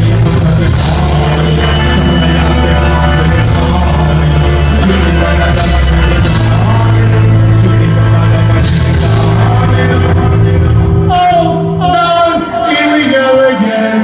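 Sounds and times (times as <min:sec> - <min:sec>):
steady drum beat: 0:00.0 - 0:12.2
heavy bass line: 0:00.0 - 0:14.0
live band music through a pa: 0:00.0 - 0:14.0.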